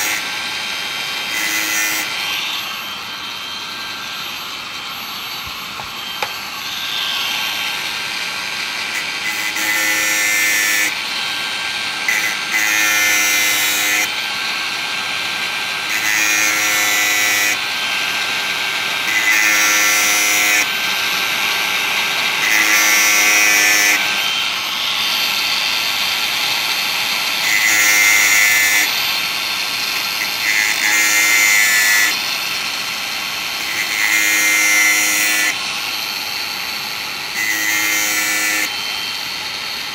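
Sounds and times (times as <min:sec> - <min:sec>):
angle grinder running: 0:00.0 - 0:39.9.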